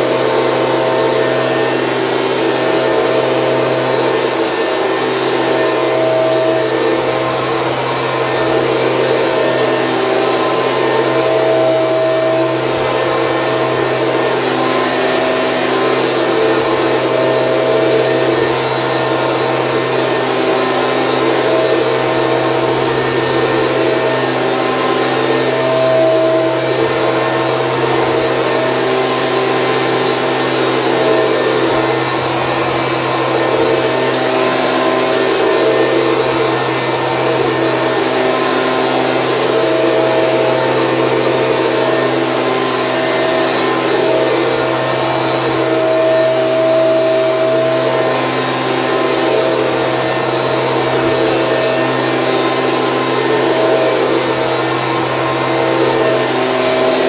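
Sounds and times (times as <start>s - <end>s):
leaf blower running: 0.0s - 57.0s.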